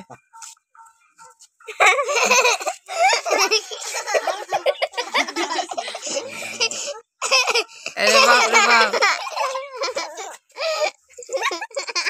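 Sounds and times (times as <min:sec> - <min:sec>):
people laughing: 0:01.7 - 0:12.0.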